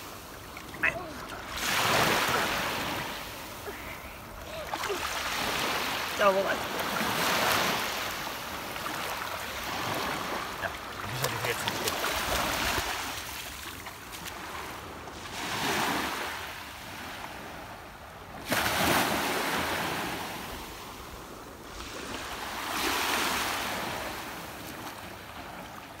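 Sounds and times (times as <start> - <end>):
sea waves washing on shore: 0.0 - 17.7, 18.4 - 26.0.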